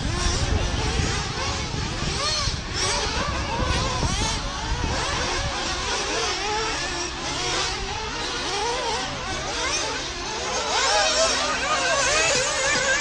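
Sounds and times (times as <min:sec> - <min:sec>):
rc car engines whining: 0:00.0 - 0:13.0.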